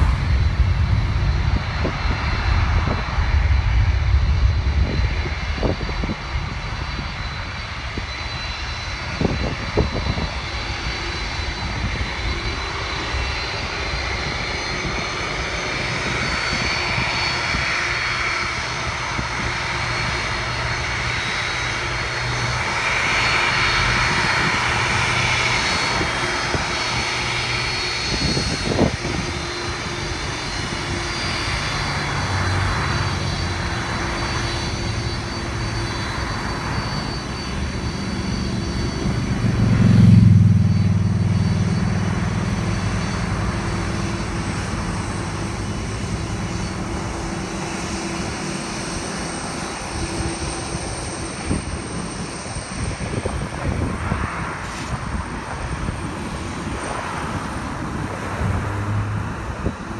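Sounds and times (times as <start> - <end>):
jet engines drone and whine: 0.0 - 59.9.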